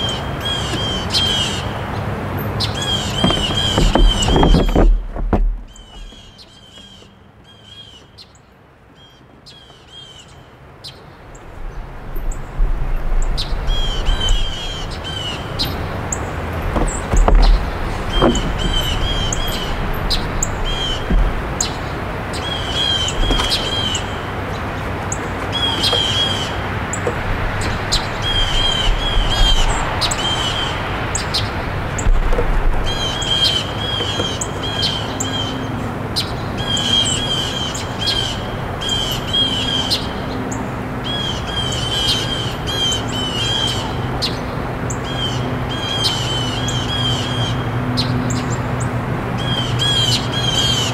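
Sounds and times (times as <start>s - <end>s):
rushing background noise: 0.0s - 7.4s, 10.6s - 50.9s
small birds chirping: 0.0s - 50.9s.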